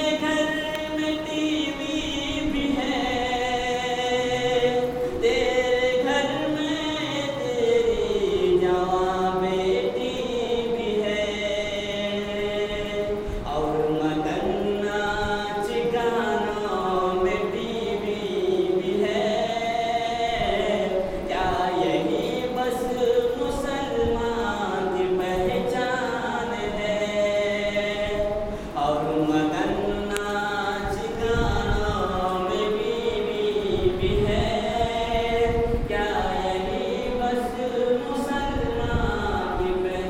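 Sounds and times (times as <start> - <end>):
man chanting into a microphone: 0.0 - 40.0.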